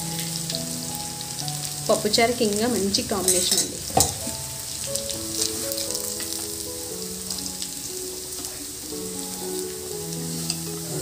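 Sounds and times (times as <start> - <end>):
chicken sizzling in a pan: 0.0 - 11.0
soft background music: 0.0 - 11.0.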